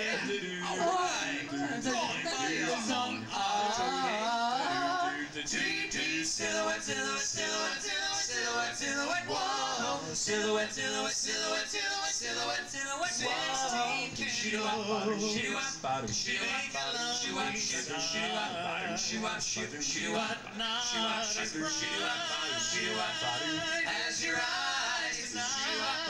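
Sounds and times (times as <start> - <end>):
male vocal group singing harmony: 0.0 - 26.0.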